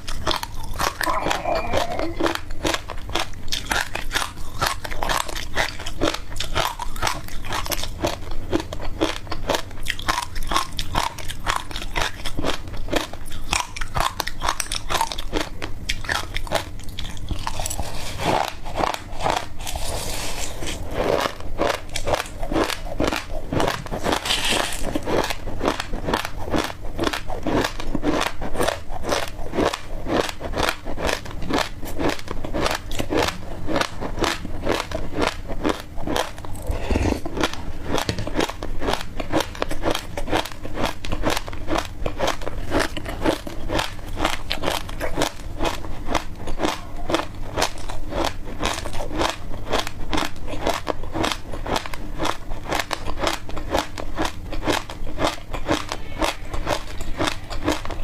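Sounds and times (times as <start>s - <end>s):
crunchy biting and chewing: 0.0s - 58.0s.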